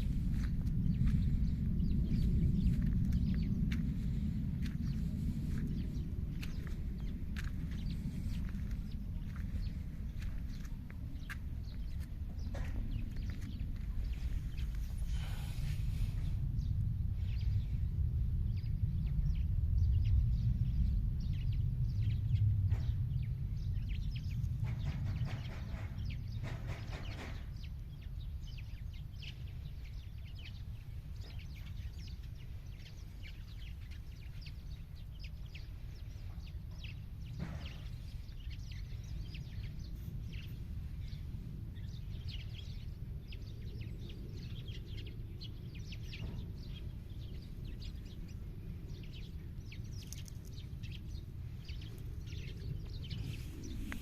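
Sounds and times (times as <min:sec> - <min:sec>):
low rumble: 0:00.0 - 0:54.0
songbirds chirping: 0:00.0 - 0:54.0.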